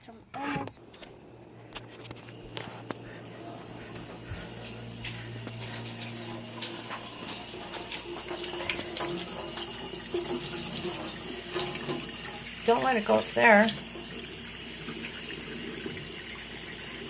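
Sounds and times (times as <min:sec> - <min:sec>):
tap water running into sink: 0:02.3 - 0:17.0.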